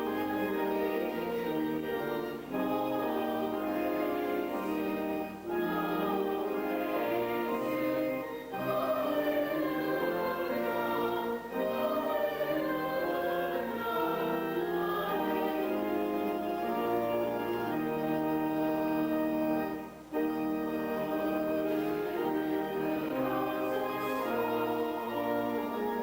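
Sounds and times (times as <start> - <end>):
choir singing with instruments: 0.0 - 26.0.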